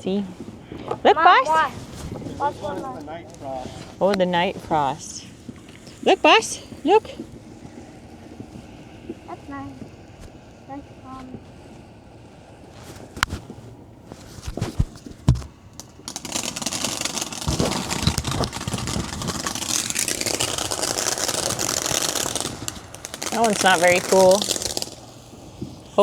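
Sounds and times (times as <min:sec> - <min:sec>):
crackling hiss of spraying sparks: 0:00.0 - 0:26.0
firework pops: 0:00.0 - 0:26.0.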